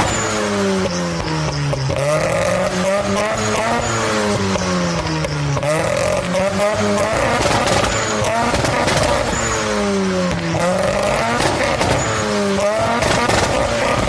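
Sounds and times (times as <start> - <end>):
sports car engine revving: 0.0 - 14.0.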